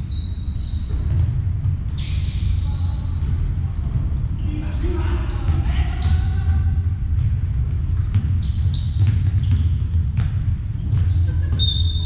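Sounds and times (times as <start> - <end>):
basketballs bouncing on court: 0.0 - 12.0
sneaker squeaks: 0.0 - 12.0.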